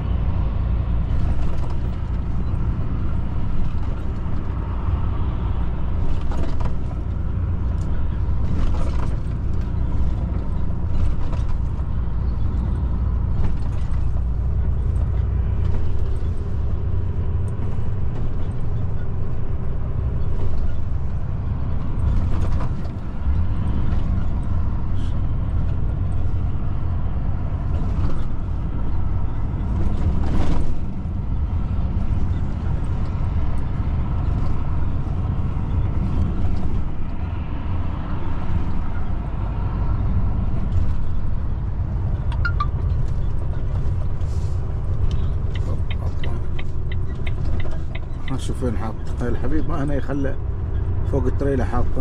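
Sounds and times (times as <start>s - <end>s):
truck engine and road noise: 0.0s - 52.0s.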